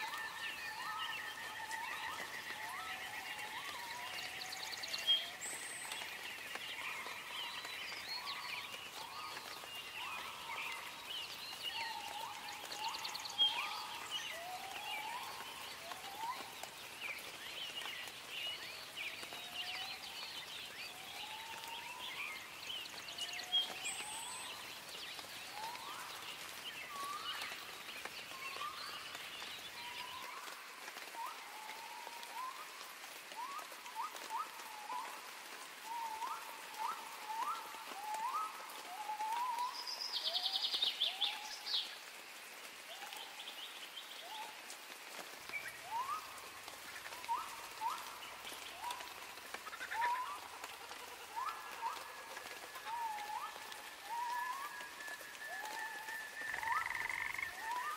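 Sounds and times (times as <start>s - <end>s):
background hiss: 0.0s - 57.9s.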